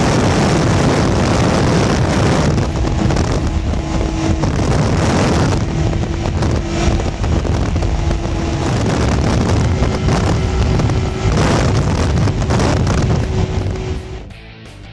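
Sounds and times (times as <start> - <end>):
snowmobile engine running: 0.0 - 14.4
wind rushing over microphone: 0.0 - 14.4.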